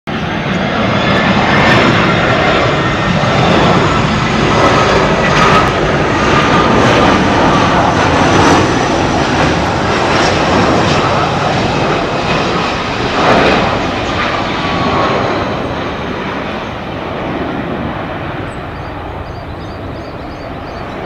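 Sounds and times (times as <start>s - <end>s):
faint high jet whine: 0.1s - 21.0s
jet engines roaring: 0.1s - 21.0s.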